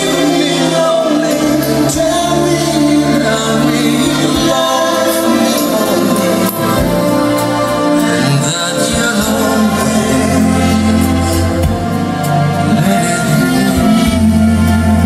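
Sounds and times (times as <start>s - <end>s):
music with singing over loudspeakers: 0.0s - 15.0s.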